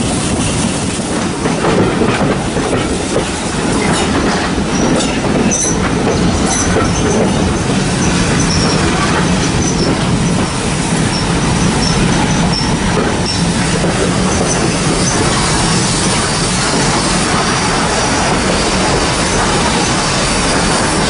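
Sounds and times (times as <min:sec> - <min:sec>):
train wheels rumbling and rattling: 0:00.0 - 0:21.0.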